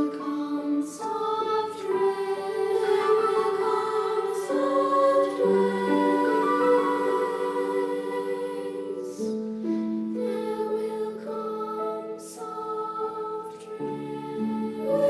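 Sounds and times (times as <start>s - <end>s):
treble choir singing: 0.0s - 15.0s.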